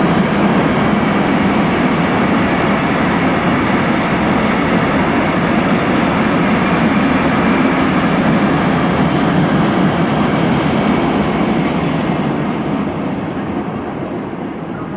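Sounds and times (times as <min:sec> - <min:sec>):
train wheels on rails: 0:00.0 - 0:14.5.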